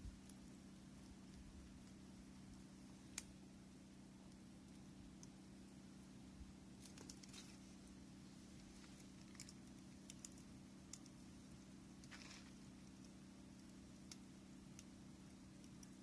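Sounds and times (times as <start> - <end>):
bonfire crackling and popping: 0.0 - 16.0
low steady hum: 0.0 - 16.0.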